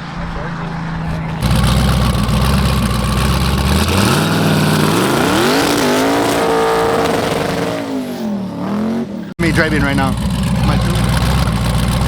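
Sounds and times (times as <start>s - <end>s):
drag car engine revving: 0.0s - 12.0s.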